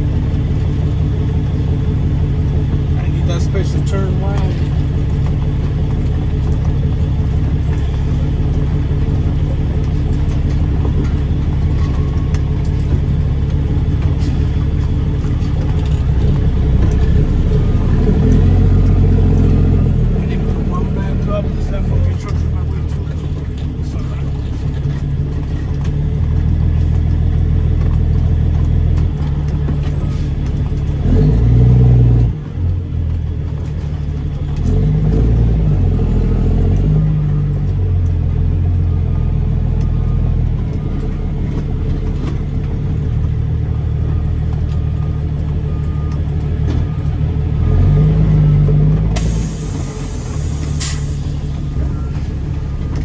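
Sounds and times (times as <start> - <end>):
diesel truck engine under load: 0.0 - 53.0.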